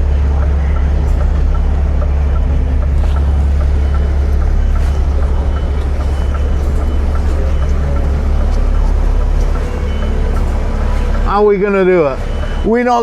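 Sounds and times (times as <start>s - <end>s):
faint regular ticking: 0.0s - 13.0s
truck diesel engine running: 0.0s - 13.0s.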